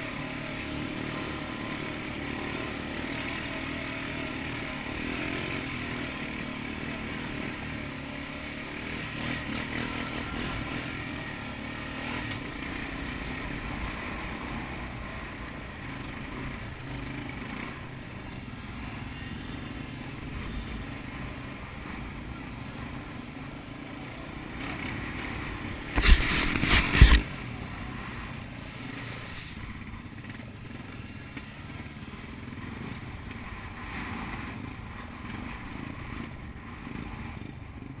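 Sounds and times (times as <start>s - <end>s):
quad bike engine running: 0.0s - 38.0s.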